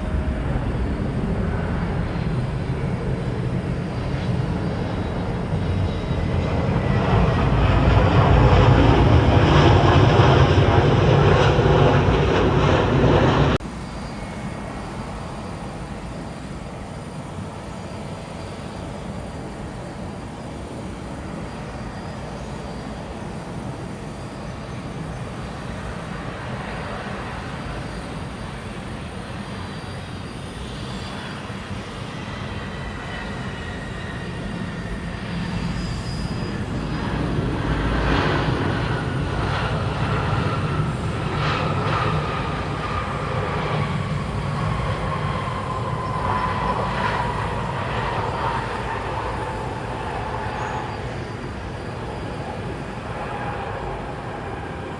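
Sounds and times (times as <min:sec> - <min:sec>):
jet engine rumble: 0:00.0 - 0:54.9
jet engine whine falling: 0:00.0 - 0:54.9.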